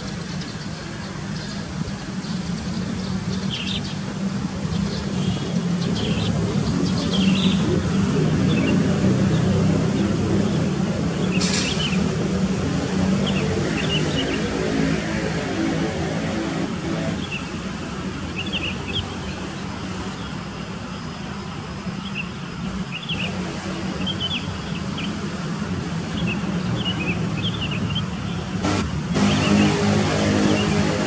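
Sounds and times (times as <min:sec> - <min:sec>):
small birds chirping: 0:00.0 - 0:15.1, 0:18.3 - 0:21.2, 0:21.9 - 0:31.0
distant vehicle traffic rumble: 0:00.0 - 0:31.0.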